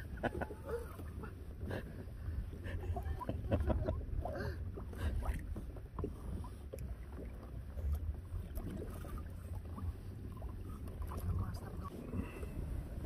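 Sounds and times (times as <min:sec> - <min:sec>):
waves lapping against kayak hull: 0:00.0 - 0:13.0
wind rumbling on microphone: 0:00.0 - 0:13.0.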